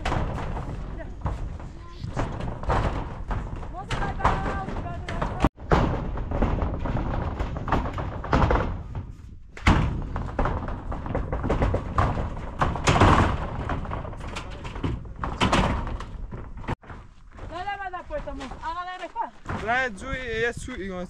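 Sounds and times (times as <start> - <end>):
building work thuds and knocks: 0.0 - 21.0.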